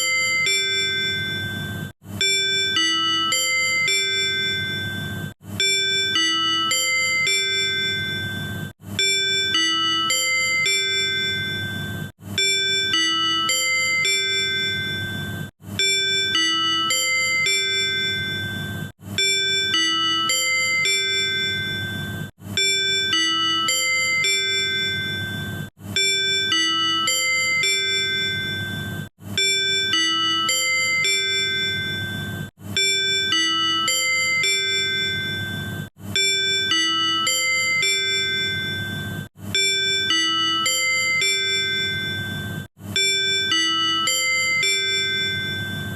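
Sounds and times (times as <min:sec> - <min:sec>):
train on-board chime: 0:00.0 - 0:45.9.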